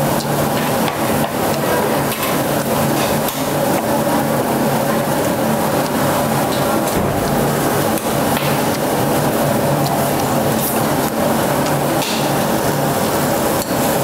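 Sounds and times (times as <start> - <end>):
meat sizzling on a grill: 0.1 - 14.0.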